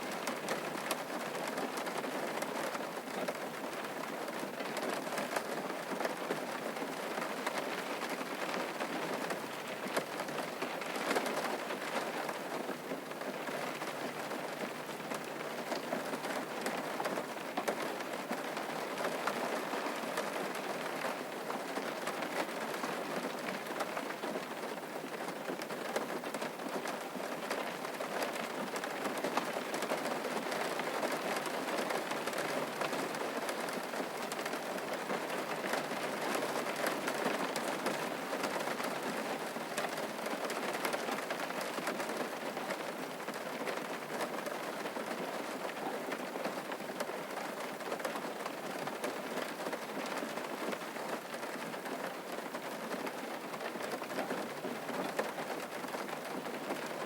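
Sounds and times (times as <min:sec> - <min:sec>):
raindrops ticking on a surface: 0:00.0 - 0:57.0
steady rain falling: 0:00.0 - 0:57.0.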